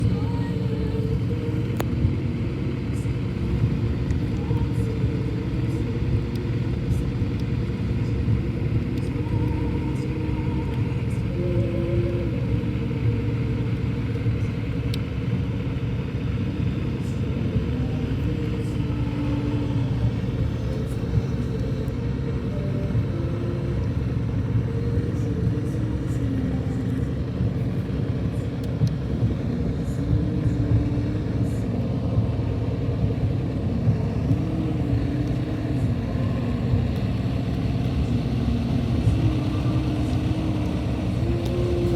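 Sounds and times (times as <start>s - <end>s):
vehicle engine rumble: 0.0s - 41.9s.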